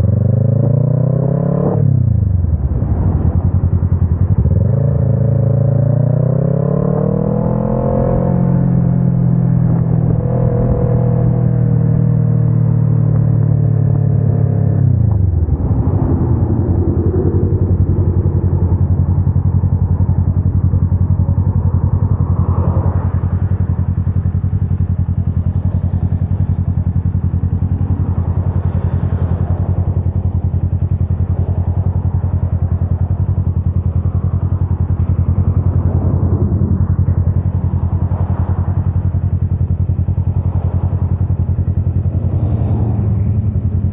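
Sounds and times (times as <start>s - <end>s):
motorcycle engine slowing and idling: 0.0s - 43.9s.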